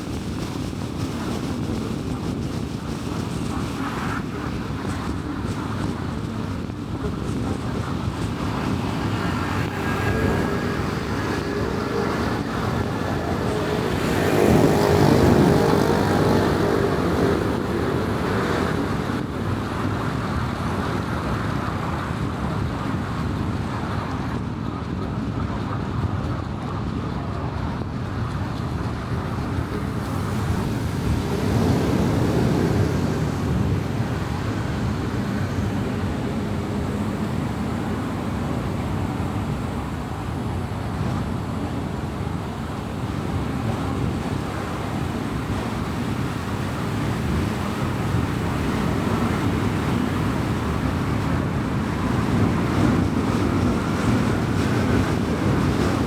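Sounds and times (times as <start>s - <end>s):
car driving on highway: 0.0s - 22.4s, 27.7s - 56.0s.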